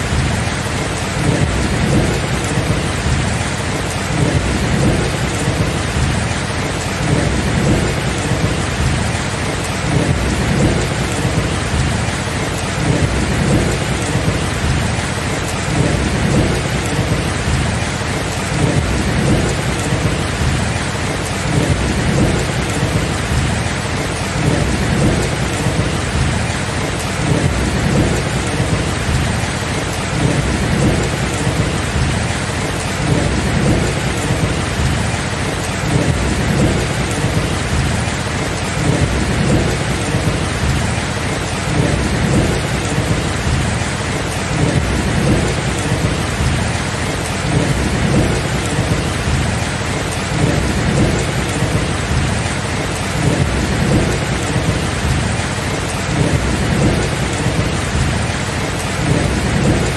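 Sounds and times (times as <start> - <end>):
low rumble of thunder: 0.0 - 59.9
steady rain: 0.0 - 59.9.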